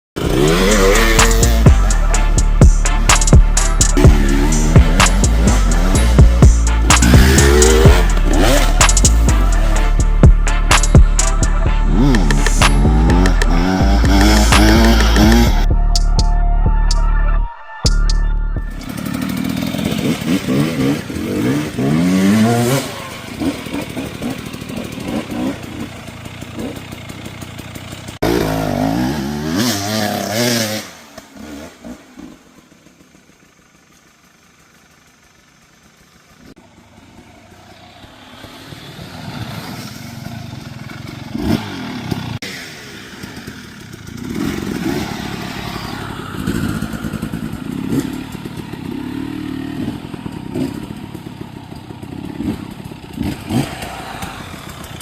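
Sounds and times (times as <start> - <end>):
dirt bike engine revving: 0.2 - 16.4, 18.7 - 55.0.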